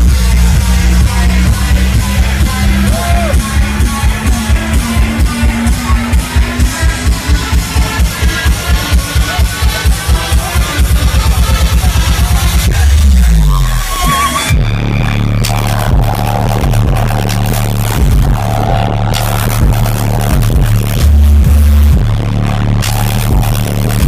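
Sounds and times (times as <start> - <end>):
heavy sustained bass: 0.0 - 8.4, 10.9 - 24.0
loud dance music: 0.0 - 24.0.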